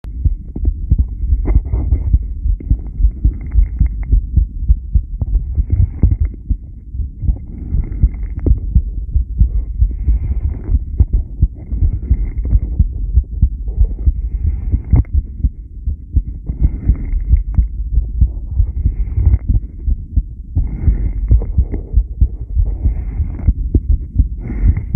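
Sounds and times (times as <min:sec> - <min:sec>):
heartbeat thumping: 0:00.0 - 0:24.9.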